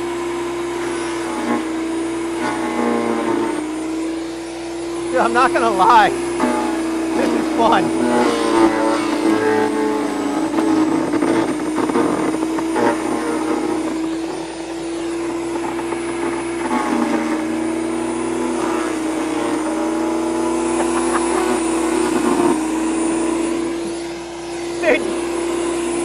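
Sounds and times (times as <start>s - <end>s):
chipper motor hum: 0.0s - 26.0s.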